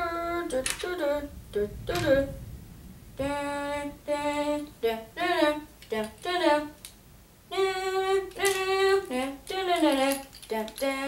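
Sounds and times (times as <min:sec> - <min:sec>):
child singing wordless tune: 0:00.0 - 0:02.5, 0:03.2 - 0:06.8, 0:07.5 - 0:11.0.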